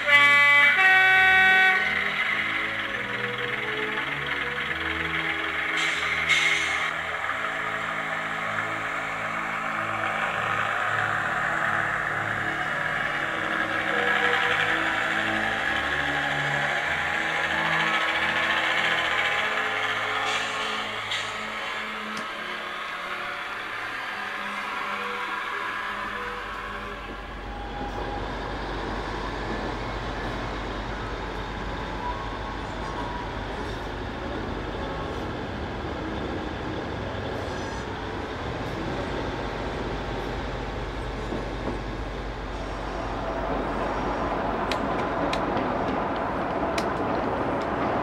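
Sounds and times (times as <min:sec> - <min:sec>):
model trains rumbling: 0:00.0 - 0:48.0.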